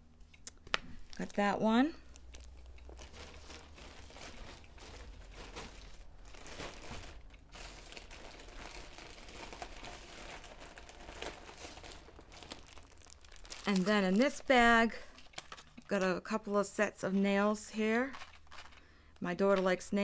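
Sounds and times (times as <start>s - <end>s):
plastic bag crinkling: 0.8s - 20.0s.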